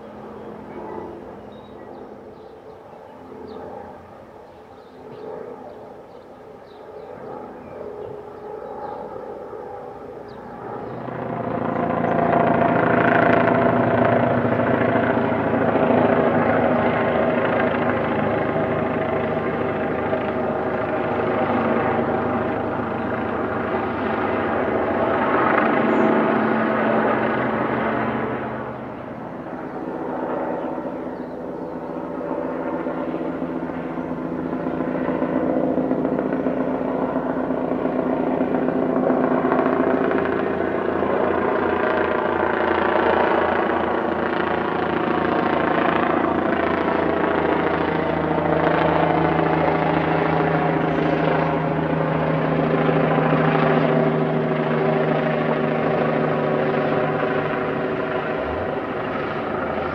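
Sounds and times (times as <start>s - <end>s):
helicopter rotor drone and chop: 0.0s - 59.9s.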